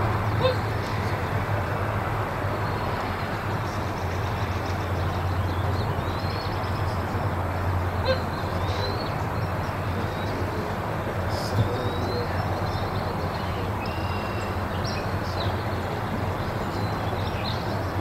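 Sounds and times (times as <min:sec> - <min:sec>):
low rumble with hiss: 0:00.0 - 0:18.0.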